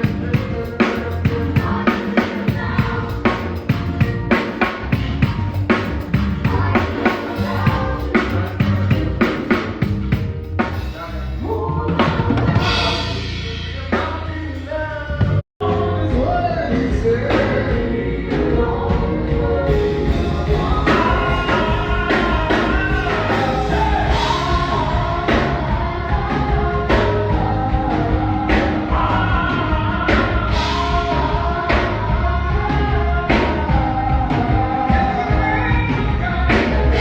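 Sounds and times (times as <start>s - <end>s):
people singing: 0.0s - 9.9s, 10.8s - 37.0s
drum kit hits: 0.0s - 11.4s, 12.0s - 37.0s
gospel band playing: 0.0s - 37.0s.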